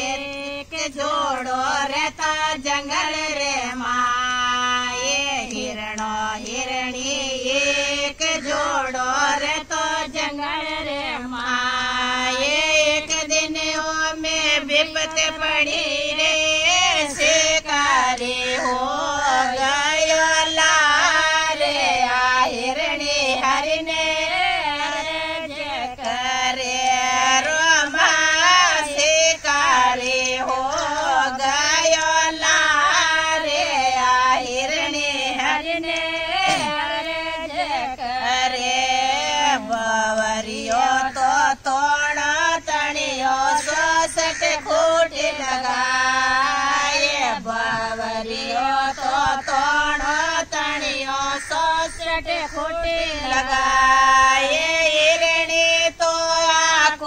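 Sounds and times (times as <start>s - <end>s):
women singing devotional song: 0.0s - 57.0s.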